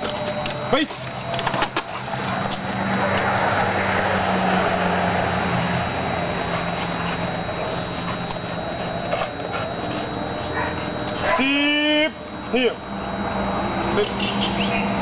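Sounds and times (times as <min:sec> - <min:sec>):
vehicle engine running: 0:01.0 - 0:11.4, 0:12.1 - 0:15.0.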